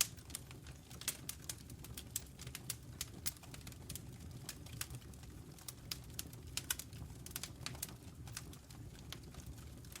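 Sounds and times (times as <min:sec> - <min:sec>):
low rumble of flames: 0:00.0 - 0:10.0
wood fire crackling and popping: 0:00.0 - 0:10.0.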